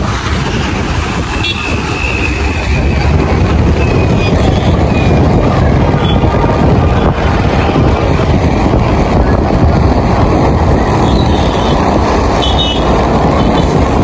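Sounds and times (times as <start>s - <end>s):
road traffic: 0.0s - 14.0s
wind rushing over microphone: 0.0s - 14.0s.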